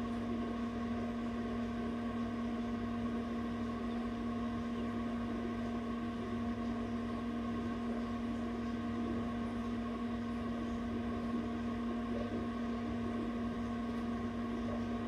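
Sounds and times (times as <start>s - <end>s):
incubator mechanical hum: 0.0s - 15.0s.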